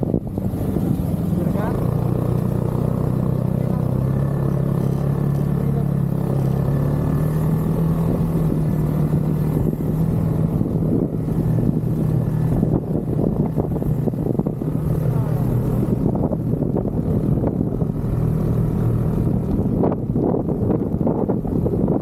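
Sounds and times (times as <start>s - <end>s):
wind on microphone: 0.0s - 4.9s, 7.2s - 22.0s
snowmobile engine running: 0.0s - 22.0s.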